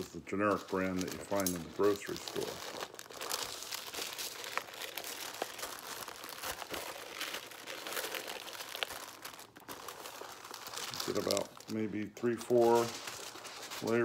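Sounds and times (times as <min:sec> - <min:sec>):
aluminum foil crinkling: 0:00.0 - 0:14.0.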